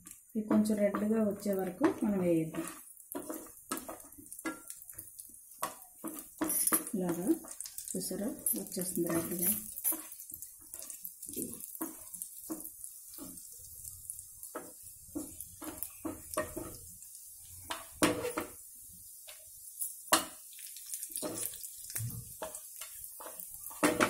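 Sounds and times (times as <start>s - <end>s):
spatula scraping frying pan: 0.0s - 18.6s, 19.2s - 24.0s
faint sizzle: 0.0s - 24.0s.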